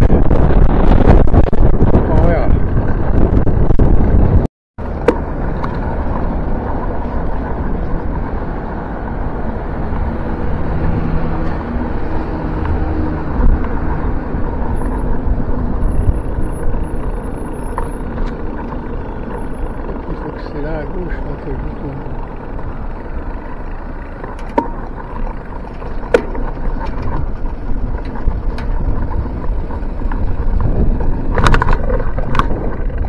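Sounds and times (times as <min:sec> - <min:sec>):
traffic passing: 0:00.0 - 0:33.0
wind and road noise: 0:00.0 - 0:33.0.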